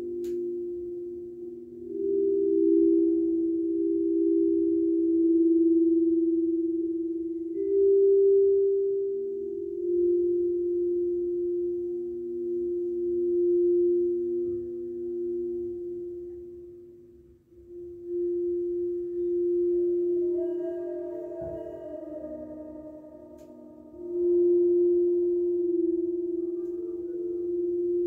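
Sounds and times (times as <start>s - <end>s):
metal pillar instrument sustained tone: 0.0s - 28.0s.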